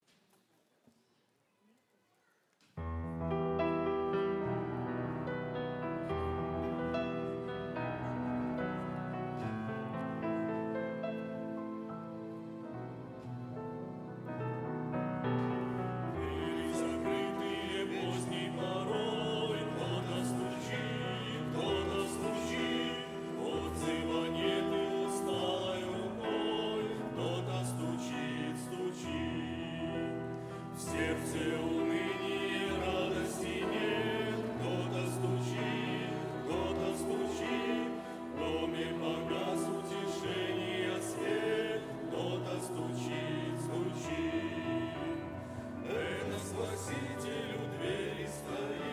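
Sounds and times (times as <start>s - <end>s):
choir singing a hymn: 3.3s - 48.9s.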